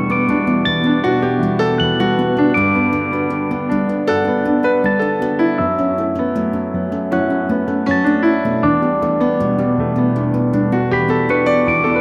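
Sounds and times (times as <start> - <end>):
plucked string notes: 0.0 - 12.0.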